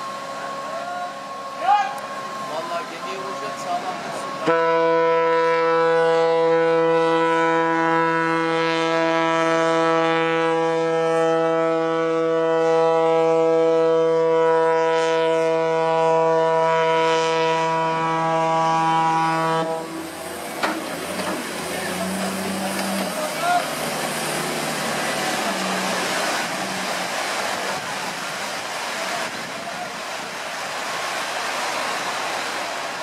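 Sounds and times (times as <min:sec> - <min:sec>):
ship's horn blast: 0:00.0 - 0:30.3.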